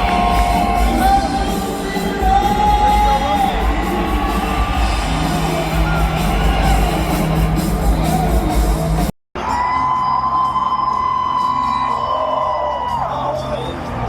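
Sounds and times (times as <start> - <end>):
arena crowd noise: 0.0 - 14.0
loud music: 0.0 - 14.0.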